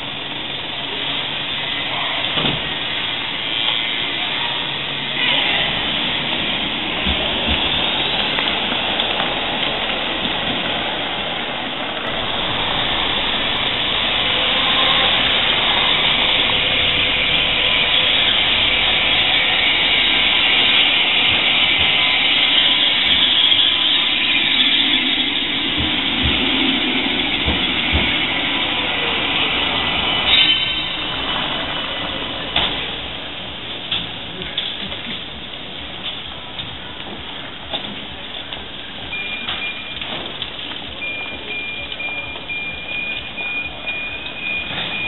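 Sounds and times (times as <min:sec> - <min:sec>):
tram rolling on rails: 0:00.0 - 0:45.0.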